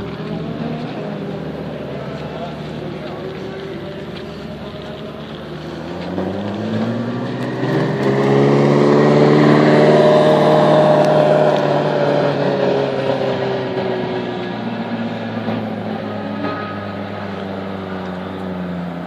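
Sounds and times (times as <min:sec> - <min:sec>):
car engine driving past: 0:00.0 - 0:19.0.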